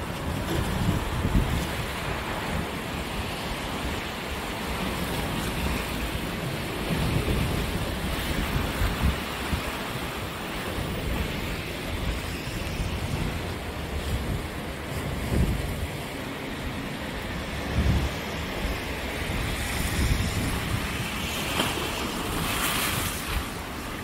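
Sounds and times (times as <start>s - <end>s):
sea surf breaking: 0.0s - 24.0s
wind buffeting microphone: 0.0s - 24.0s.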